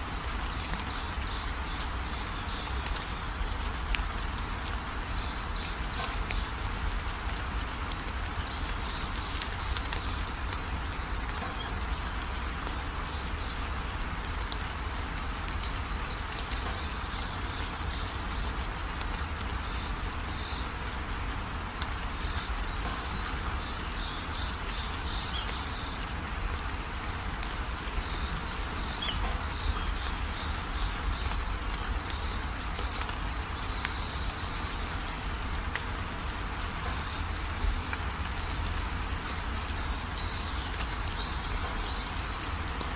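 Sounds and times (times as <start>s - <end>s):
small birds chirping: 0.0s - 42.9s
steady hiss and low rumble: 0.0s - 42.9s.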